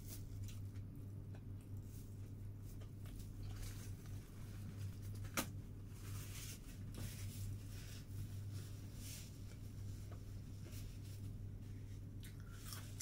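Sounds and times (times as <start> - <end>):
paper tissue rustling: 0.0 - 0.8, 1.8 - 12.2.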